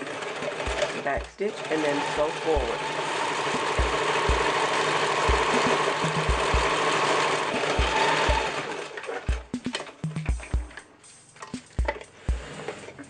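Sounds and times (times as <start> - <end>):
sewing machine stitching: 0.0 - 10.0, 11.5 - 13.0.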